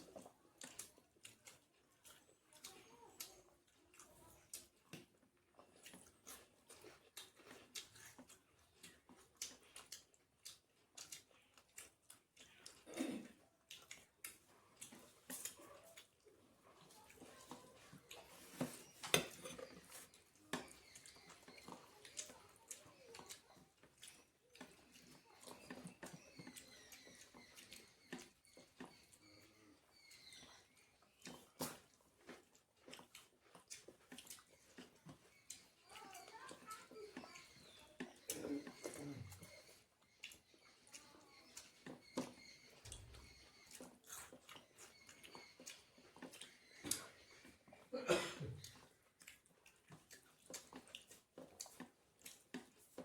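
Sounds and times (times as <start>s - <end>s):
chewing: 0.0s - 53.0s
eating by hand from a plate: 0.0s - 53.0s.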